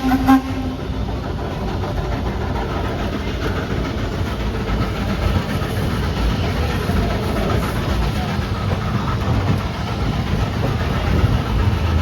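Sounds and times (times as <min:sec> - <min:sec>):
train cars rumbling and rattling: 0:00.0 - 0:12.0.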